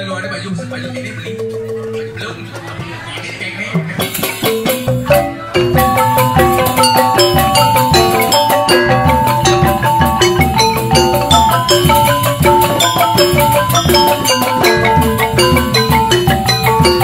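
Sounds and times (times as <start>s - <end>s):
bamboo xylophones playing: 0.2s - 17.0s
drum strokes: 0.6s - 17.0s.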